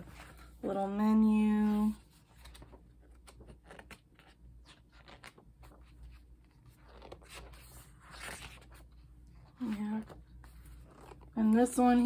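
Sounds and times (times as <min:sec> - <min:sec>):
pages rustling and turning: 0:00.0 - 0:12.0.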